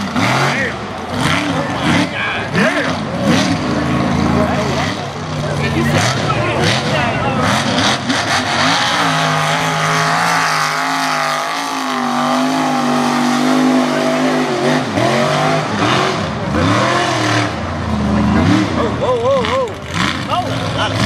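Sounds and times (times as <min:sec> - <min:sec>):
tires churning through mud: 0:00.0 - 0:21.0
truck engine revving: 0:00.0 - 0:21.0.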